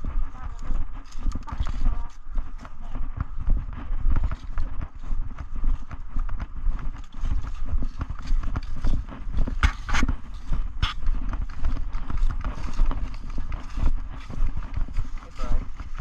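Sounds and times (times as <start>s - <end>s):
footsteps with rustling: 0.0s - 16.0s.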